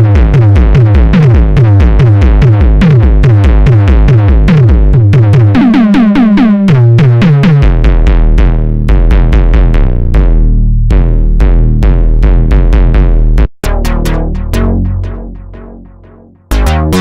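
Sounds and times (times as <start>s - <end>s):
synthesizer bass line: 0.0s - 17.0s.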